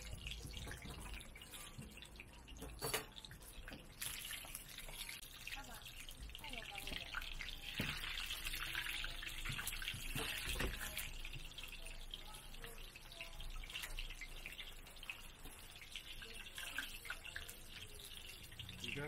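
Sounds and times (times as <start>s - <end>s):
oil sizzling and bubbling: 0.0s - 19.0s.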